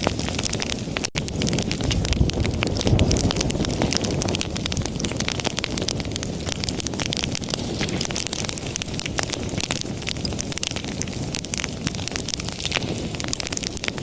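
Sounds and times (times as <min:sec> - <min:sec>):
low rush of flames: 0:00.0 - 0:14.0
wood fire crackling and popping: 0:00.0 - 0:14.0.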